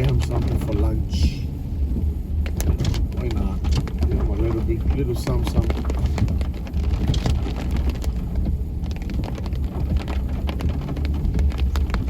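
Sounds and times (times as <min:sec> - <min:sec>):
car driving rumble: 0:00.0 - 0:12.0
heavy rain on car roof: 0:00.0 - 0:12.0.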